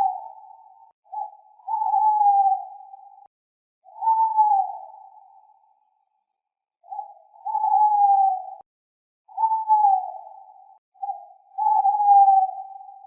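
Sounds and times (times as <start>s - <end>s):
owl hooting: 0.0s - 5.8s, 6.8s - 8.6s, 9.3s - 13.0s.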